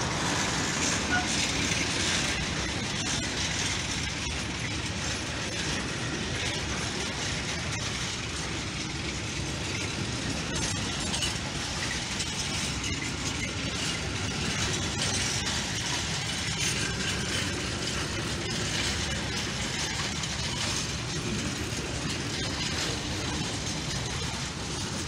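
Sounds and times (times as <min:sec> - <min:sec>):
faint rail clacks: 0:00.0 - 0:25.0
freight train wheels rumbling: 0:00.0 - 0:25.0.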